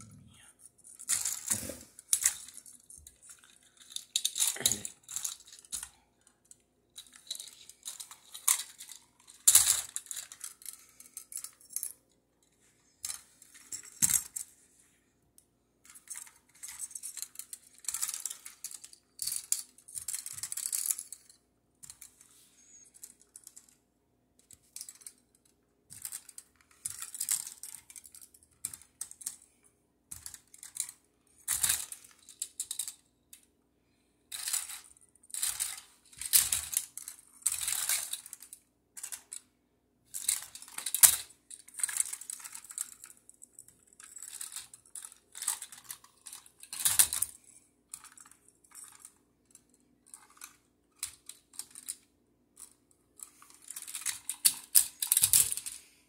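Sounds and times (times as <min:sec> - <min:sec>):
plastic bricks clicking and clattering: 0:00.8 - 0:12.0, 0:15.8 - 0:23.8, 0:24.4 - 0:39.5, 0:40.1 - 0:55.9.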